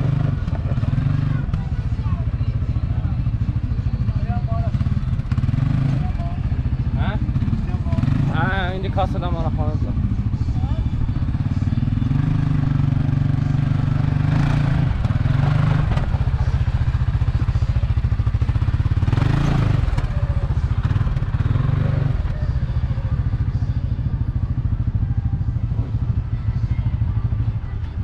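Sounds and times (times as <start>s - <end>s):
utv engine running: 0.0s - 28.0s.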